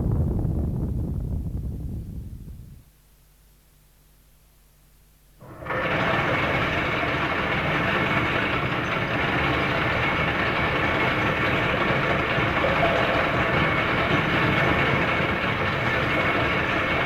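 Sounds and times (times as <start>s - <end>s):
mechanical rumble and rattle: 0.0s - 2.9s, 5.4s - 17.0s.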